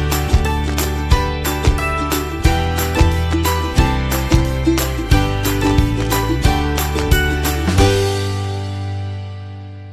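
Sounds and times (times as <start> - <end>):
background music: 0.0 - 9.9.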